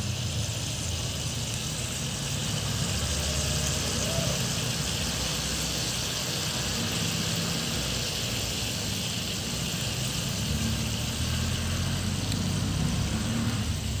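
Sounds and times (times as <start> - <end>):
meat sizzling in a wok: 0.0 - 14.0.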